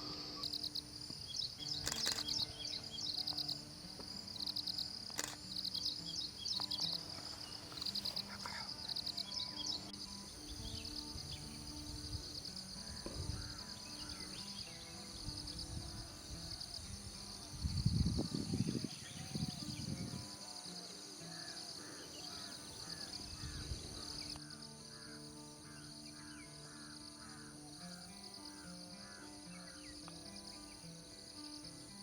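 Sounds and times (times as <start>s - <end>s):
insects chirping and buzzing: 0.0s - 32.0s
soft background music: 0.0s - 32.0s.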